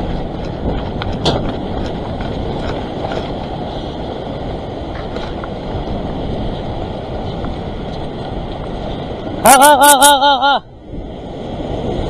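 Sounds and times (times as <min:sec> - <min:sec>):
surf washing over rocks: 0:00.0 - 0:12.0.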